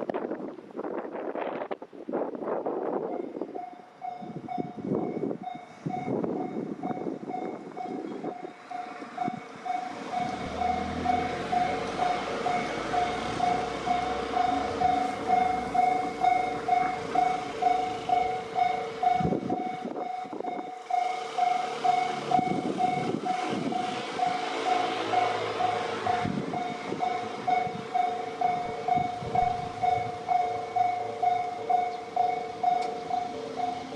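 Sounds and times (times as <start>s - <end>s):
train rumbling: 0.0s - 33.9s
level crossing alarm dinging: 5.4s - 33.9s.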